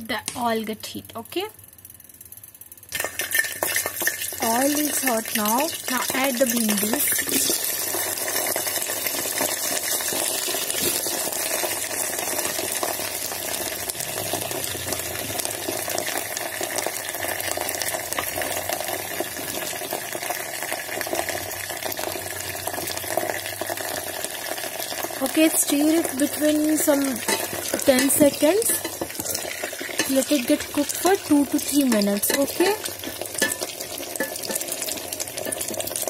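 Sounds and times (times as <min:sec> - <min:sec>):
okra sizzling in oil: 0:02.9 - 0:36.0.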